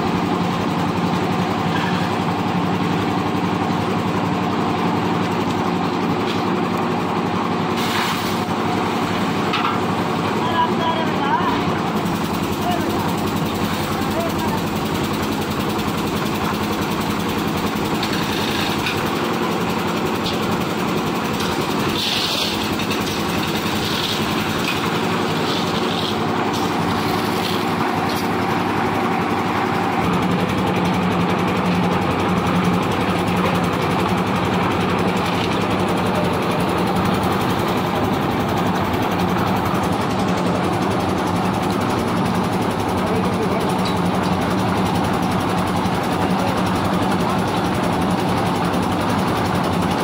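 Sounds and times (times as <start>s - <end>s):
concrete mixer engine running: 0.0s - 50.0s.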